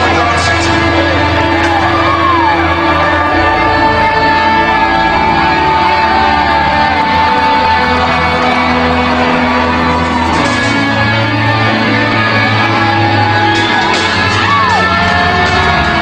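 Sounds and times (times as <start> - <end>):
loud music with held notes: 0.0 - 16.0.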